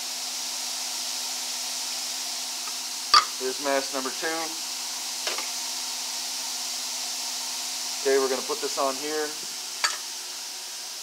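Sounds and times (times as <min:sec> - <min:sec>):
blower hiss of air: 0:00.0 - 0:11.0.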